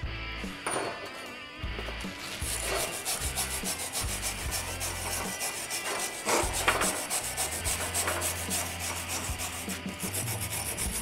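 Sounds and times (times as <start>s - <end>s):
wire brush scrubbing steel: 1.1s - 11.0s.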